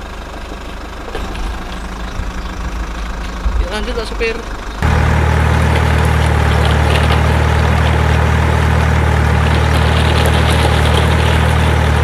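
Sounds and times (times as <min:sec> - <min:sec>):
truck engine drone: 0:00.0 - 0:12.0.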